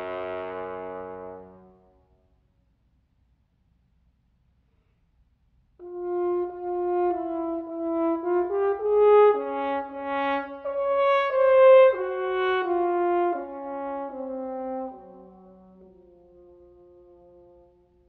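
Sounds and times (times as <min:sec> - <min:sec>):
french horn melody: 0:00.0 - 0:02.4, 0:05.8 - 0:18.0.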